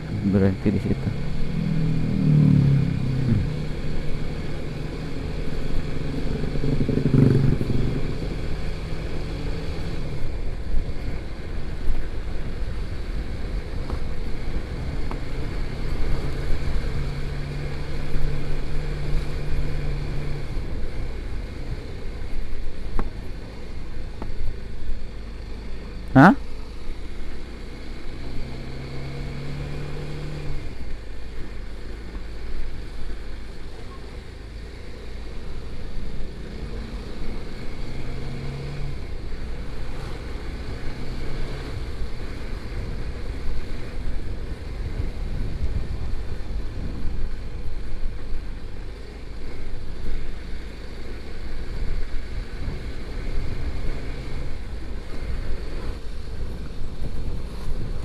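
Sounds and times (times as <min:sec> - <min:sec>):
motorcycle engine hum: 0:00.0 - 0:58.0
wind and road noise: 0:00.0 - 0:58.0.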